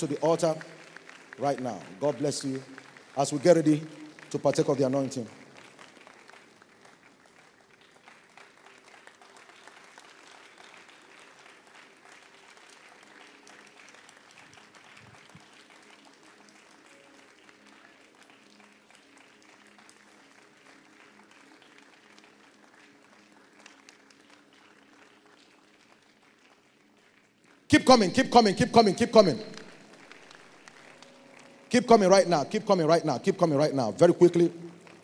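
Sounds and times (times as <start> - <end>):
congregation applauding: 0.0 - 35.0.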